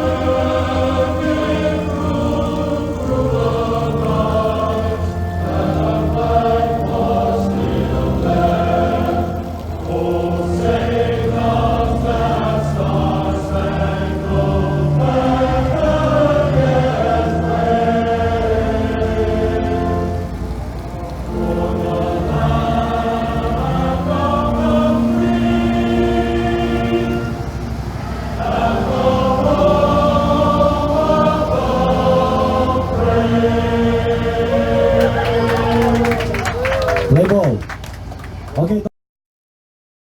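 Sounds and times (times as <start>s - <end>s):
choir singing held notes: 0.0s - 38.5s
steady low drone: 0.0s - 38.5s.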